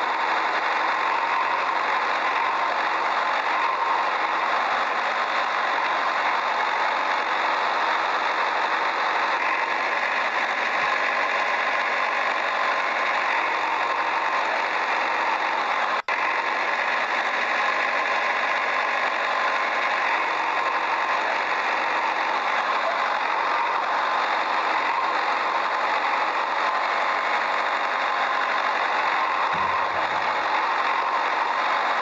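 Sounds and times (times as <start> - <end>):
engine-like drone: 0.0 - 32.0.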